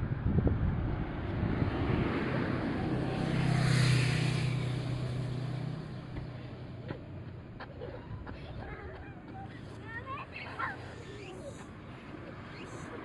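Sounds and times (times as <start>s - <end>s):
low engine hum: 0.0s - 13.0s
vehicle tyre and road noise: 0.0s - 13.0s.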